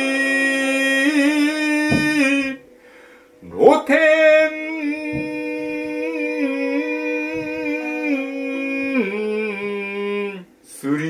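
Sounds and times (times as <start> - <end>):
voice chanting sung poem: 0.0 - 2.6, 3.4 - 11.0.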